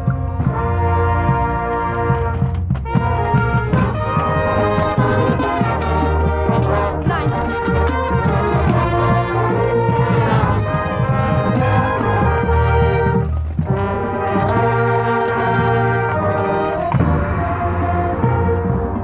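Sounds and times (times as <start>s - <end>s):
marching band brass playing: 0.0s - 19.0s.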